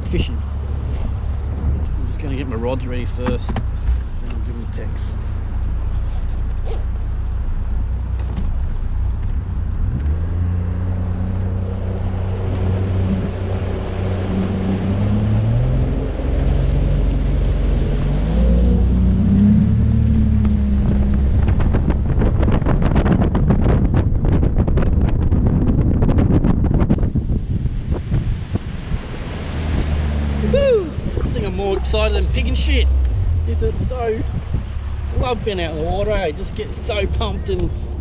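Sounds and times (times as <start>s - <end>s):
outboard motor running: 0.0s - 38.0s
wind buffeting microphone: 0.0s - 38.0s.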